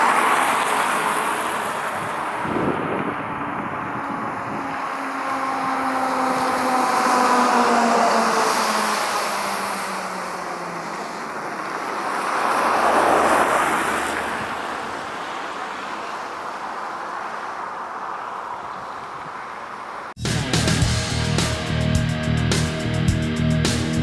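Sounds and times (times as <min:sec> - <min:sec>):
road vehicle passing by: 0:00.0 - 0:20.2
steady road noise: 0:00.0 - 0:24.0.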